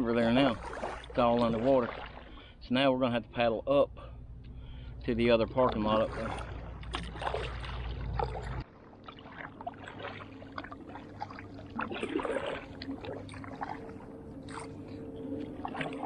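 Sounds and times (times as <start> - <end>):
faint steady hum: 0.0 - 16.0
kayak paddle splashing: 0.2 - 2.6, 5.4 - 16.0.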